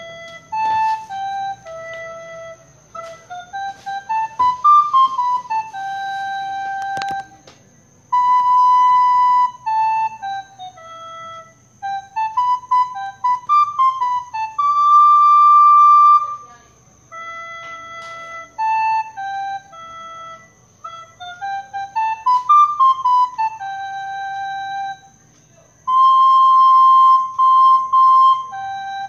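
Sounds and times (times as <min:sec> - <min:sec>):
solo flute melody: 0:00.0 - 0:29.0.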